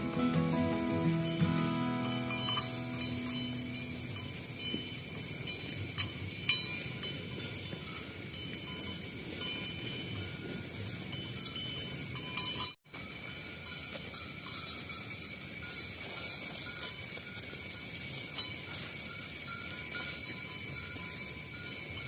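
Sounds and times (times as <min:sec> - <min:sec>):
cowbells clanking: 0:00.0 - 0:22.0.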